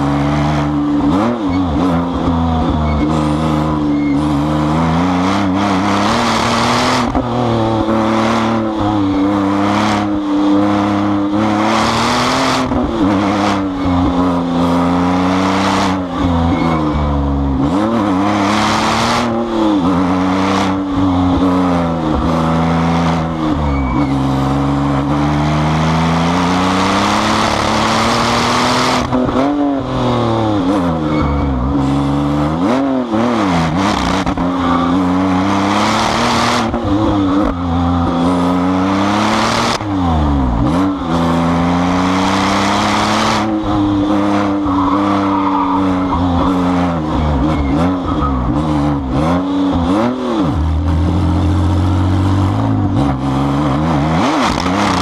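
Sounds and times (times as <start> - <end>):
sports car engine revving: 0.0 - 55.0.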